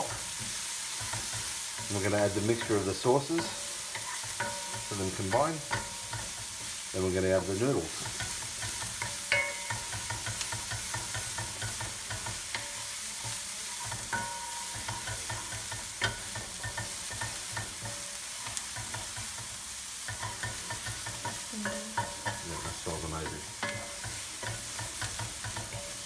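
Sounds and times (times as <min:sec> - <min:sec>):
food sizzling in a wok: 0:00.0 - 0:26.0
utensil clinking and scraping wok: 0:00.0 - 0:26.0.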